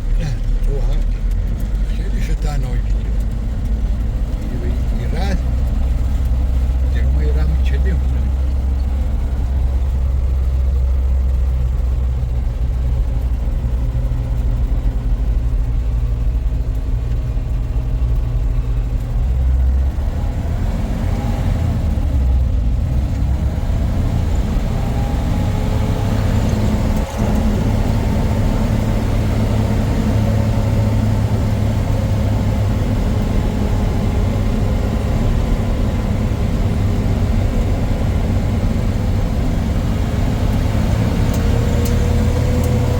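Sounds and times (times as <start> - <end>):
vehicle engine droning: 0.0 - 42.9.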